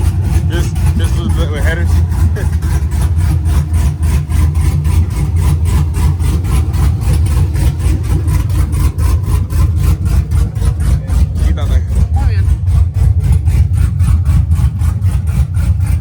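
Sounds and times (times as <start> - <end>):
deep pulsing engine idle: 0.0 - 16.0.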